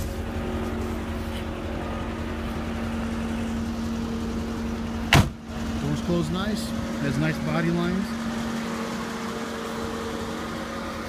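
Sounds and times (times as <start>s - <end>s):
car engine idling: 0.0s - 11.0s
climate control humming: 0.0s - 11.0s.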